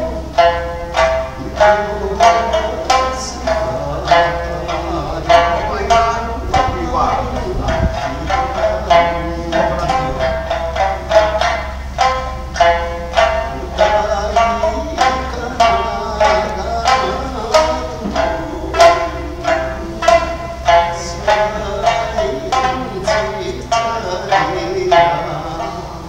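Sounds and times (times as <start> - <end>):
plucked lute notes: 0.0 - 26.0
steady low hum: 0.0 - 26.0.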